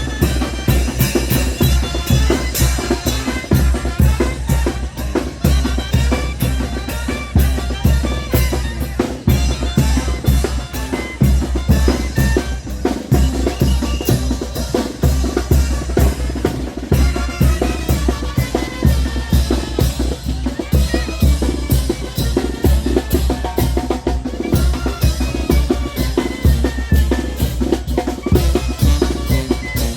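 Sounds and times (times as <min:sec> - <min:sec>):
bass drum and snare beat: 0:00.0 - 0:29.9
brass band playing: 0:00.0 - 0:29.9.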